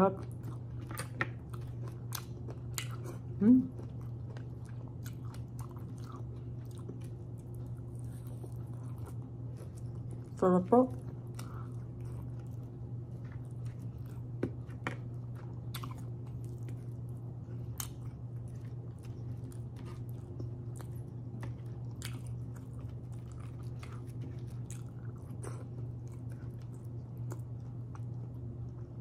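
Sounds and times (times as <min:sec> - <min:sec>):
steady low hum: 0:00.0 - 0:29.0
close-up chewing: 0:00.1 - 0:29.0.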